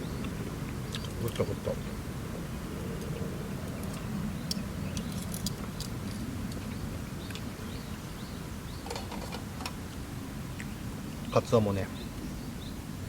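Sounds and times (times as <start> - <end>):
fire low rumble: 0.0 - 11.6.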